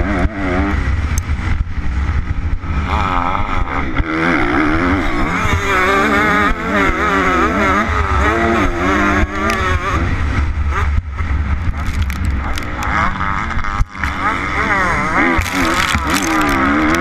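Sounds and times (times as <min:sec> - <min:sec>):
motocross engine revving: 0:00.0 - 0:17.0
wind rumble on microphone: 0:00.0 - 0:17.0.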